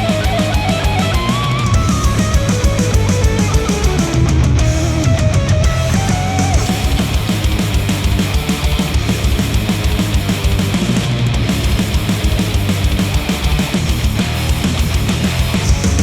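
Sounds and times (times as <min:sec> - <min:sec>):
distorted electric guitars: 0:00.0 - 0:16.0
fast driving drumbeat: 0:00.0 - 0:16.0.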